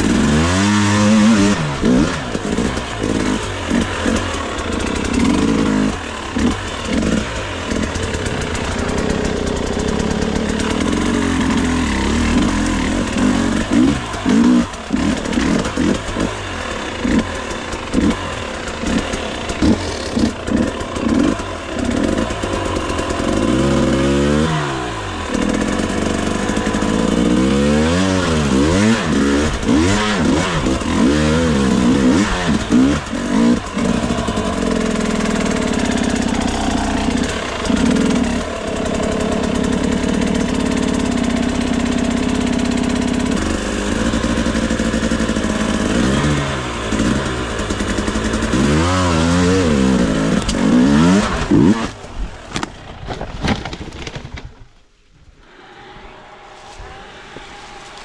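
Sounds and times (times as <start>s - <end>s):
motorcycle engine revving: 0.0s - 54.1s, 55.4s - 58.0s.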